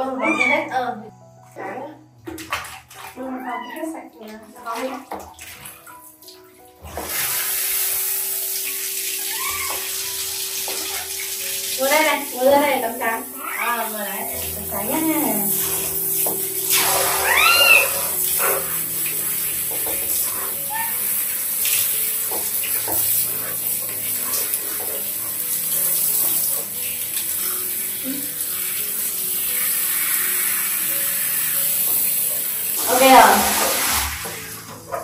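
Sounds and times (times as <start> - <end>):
shower water splashing: 2.2 - 35.0.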